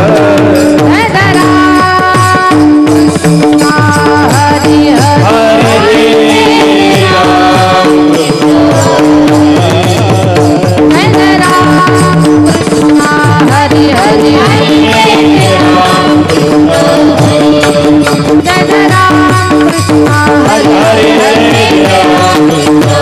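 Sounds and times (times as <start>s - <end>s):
hand drum beat: 0.0s - 23.0s
harmonium drone: 0.0s - 23.0s
woman singing: 0.0s - 23.0s.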